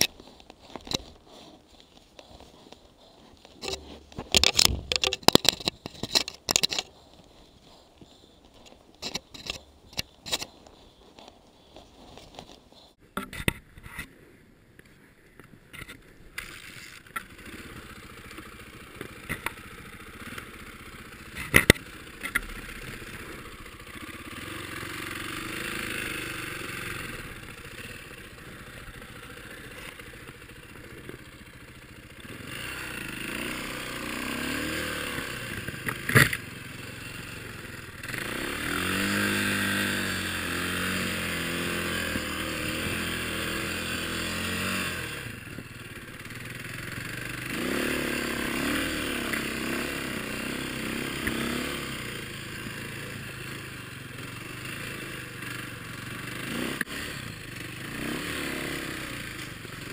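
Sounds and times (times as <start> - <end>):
dirt-bike engine running: 0.0 - 13.4, 15.8 - 59.9
knocks and scrapes in snow: 0.0 - 55.0.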